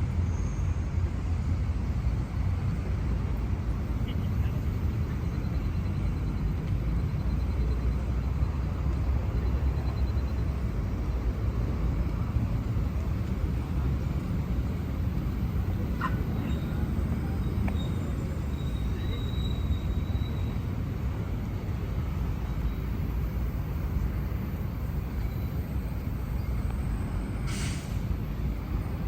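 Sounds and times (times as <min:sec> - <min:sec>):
faint high whine: 0:00.0 - 0:29.0
traffic rumble: 0:00.0 - 0:29.0.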